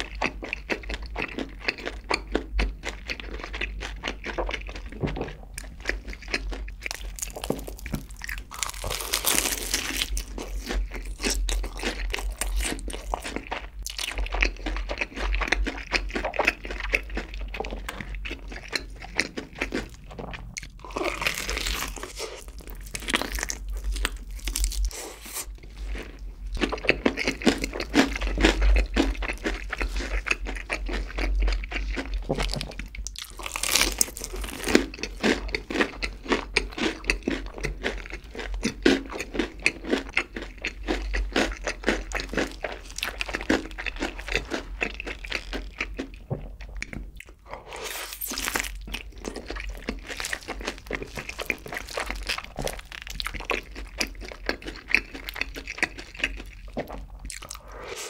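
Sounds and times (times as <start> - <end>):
chewing crispy fried chicken: 0.0 - 58.0.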